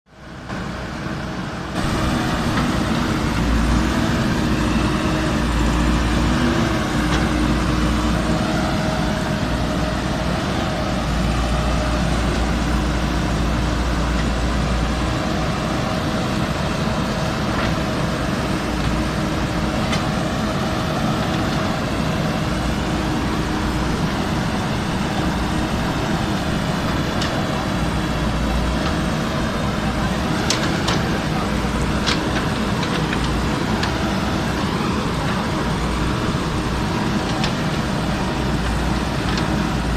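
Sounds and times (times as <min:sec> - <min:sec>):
diesel engine running: 0:00.1 - 0:39.9.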